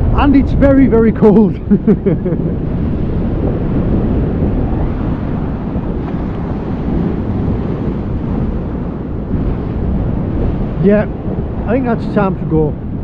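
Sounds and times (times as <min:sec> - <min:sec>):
sea surf breaking on rocks: 0:00.0 - 0:13.0
wind blowing on microphone: 0:00.0 - 0:13.0.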